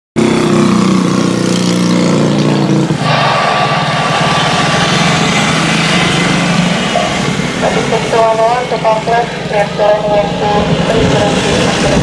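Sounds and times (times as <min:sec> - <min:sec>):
jet engine roar: 0:00.9 - 0:12.0
jet engine whine: 0:02.3 - 0:12.0.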